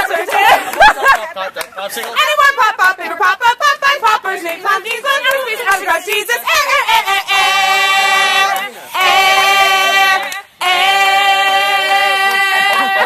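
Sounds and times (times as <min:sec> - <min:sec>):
group singing long notes: 0:02.2 - 0:13.0.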